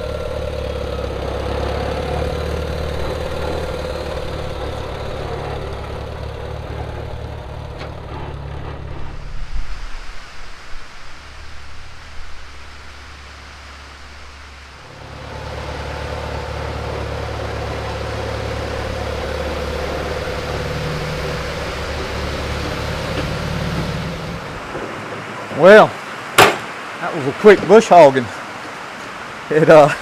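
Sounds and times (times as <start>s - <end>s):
tractor engine running: 0.0s - 9.9s, 12.5s - 29.9s.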